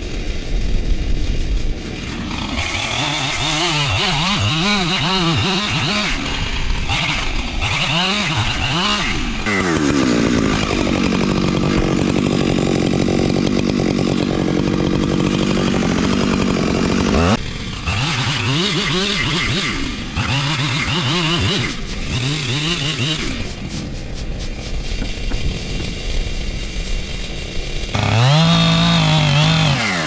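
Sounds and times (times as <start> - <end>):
chainsaw revving: 0.0 - 30.0.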